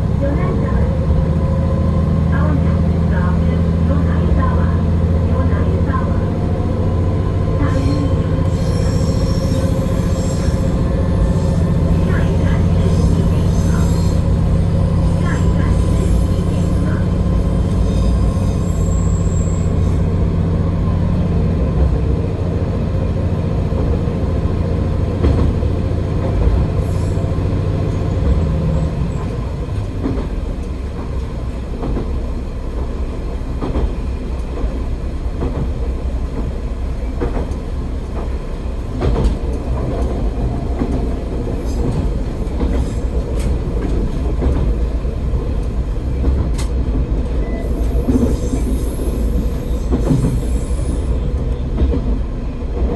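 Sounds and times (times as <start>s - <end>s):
diesel railcar engine drone: 0.0s - 52.9s
wheels rumbling on rail: 0.0s - 52.9s
rail joint clicks: 0.2s - 52.9s.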